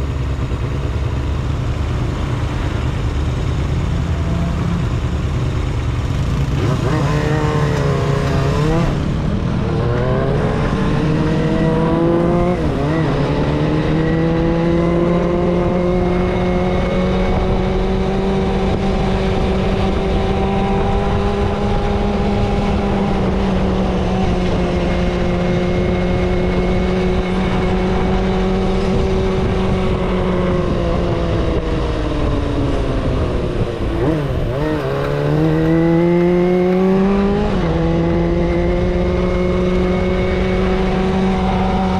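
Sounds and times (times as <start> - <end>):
motorcycle engine revving: 0.0 - 41.9
wind noise: 0.0 - 41.9.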